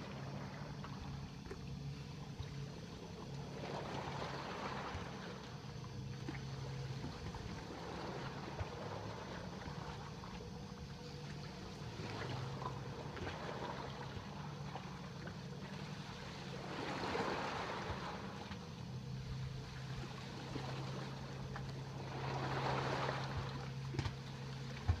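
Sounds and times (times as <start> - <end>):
low mechanical hum: 0.0 - 25.0
seawater sloshing and lapping: 0.0 - 25.0.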